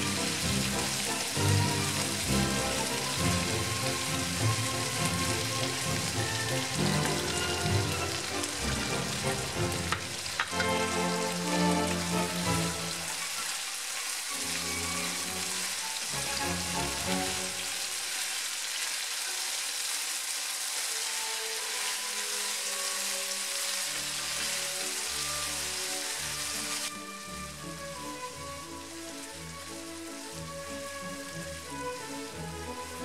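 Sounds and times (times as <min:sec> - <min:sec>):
background music: 0:00.0 - 0:13.2, 0:14.3 - 0:17.9, 0:20.9 - 0:33.0
spatula stir-frying: 0:00.0 - 0:31.4
food sizzling in a frying pan: 0:00.0 - 0:33.0.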